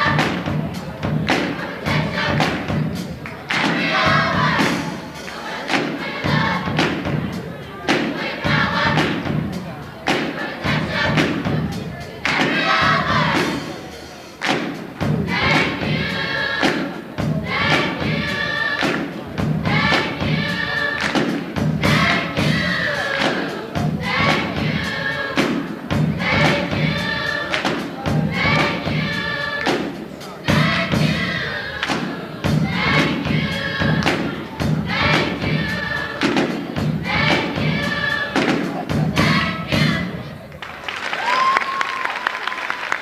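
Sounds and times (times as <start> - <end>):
group of voices singing: 0.0 - 40.5
loud rhythmic thumps: 0.0 - 40.5.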